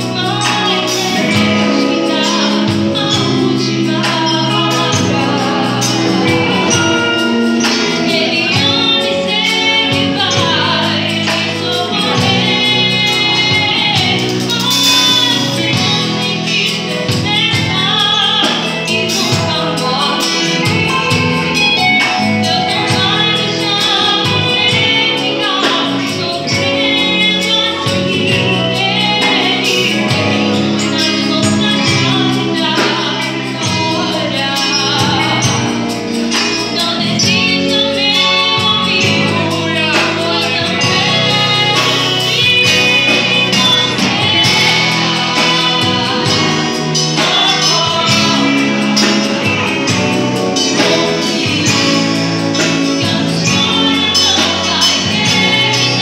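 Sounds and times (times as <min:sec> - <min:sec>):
keyboard: 0:00.0 - 0:56.0
percussion: 0:00.0 - 0:56.0
woman singing lead: 0:00.0 - 0:56.0.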